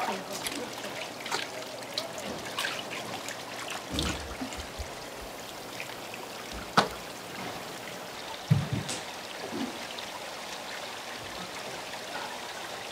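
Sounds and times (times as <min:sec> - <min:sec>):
running and trickling water: 0:00.0 - 0:12.9
water splashes: 0:00.0 - 0:12.9.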